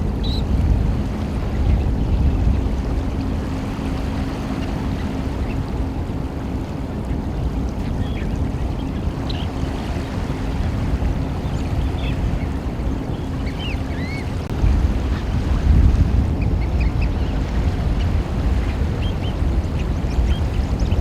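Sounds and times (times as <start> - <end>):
low steady hum: 0.0 - 21.0
surf: 0.0 - 21.0
wind: 0.0 - 21.0.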